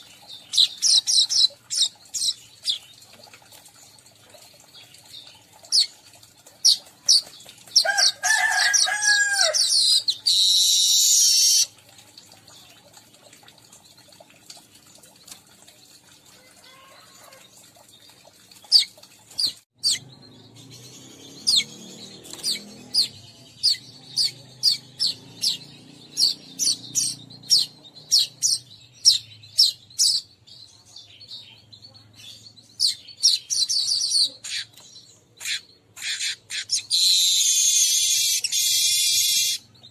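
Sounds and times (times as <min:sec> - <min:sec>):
chattering bird song: 0:00.0 - 0:39.9.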